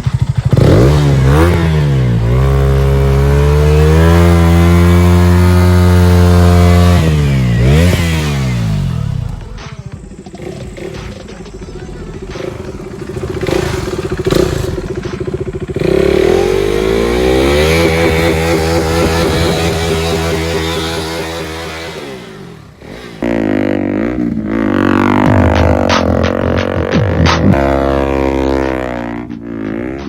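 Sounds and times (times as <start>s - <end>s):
motorcycle engine rumbling: 0.0s - 30.0s.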